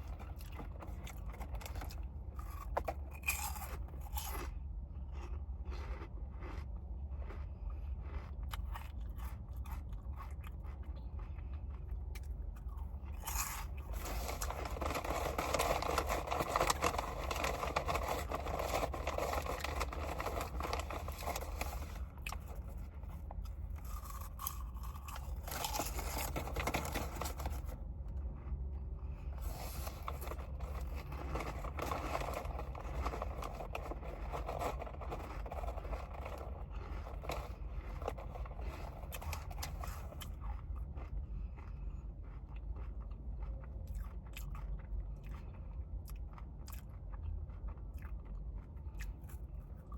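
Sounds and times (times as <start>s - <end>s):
person chewing noodles: 0.0s - 49.9s.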